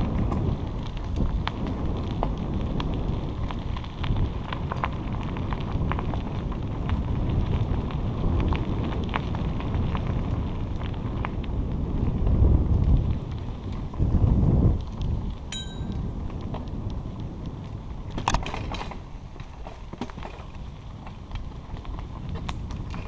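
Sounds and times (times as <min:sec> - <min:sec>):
bicycle tyres rolling on trail: 0:00.0 - 0:23.0
small clicks and crackles: 0:00.0 - 0:23.0
wind on microphone: 0:00.0 - 0:23.0.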